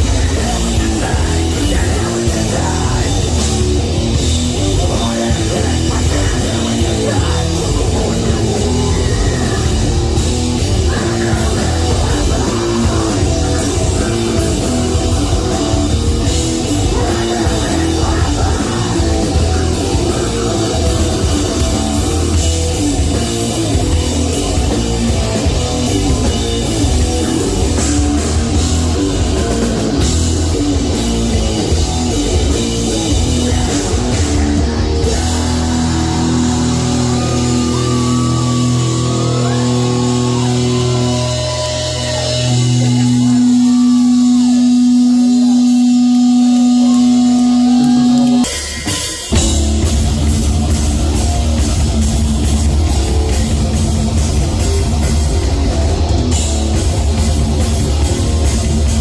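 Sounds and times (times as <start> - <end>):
guitar squealing: 0.0 - 59.0
heavy metal band playing: 0.0 - 59.0.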